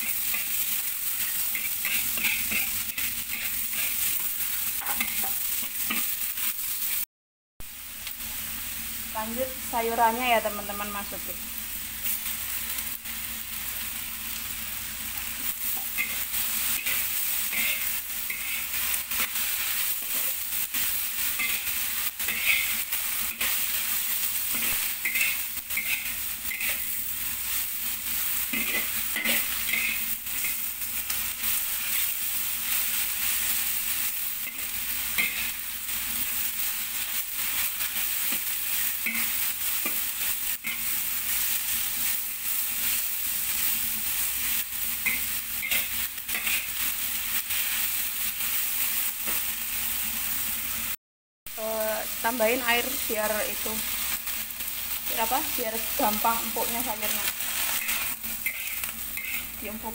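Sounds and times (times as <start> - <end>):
spatula scraping a wok: 0.0 - 7.0, 15.2 - 50.4, 53.7 - 59.9
vegetables sizzling in a wok: 0.0 - 59.9.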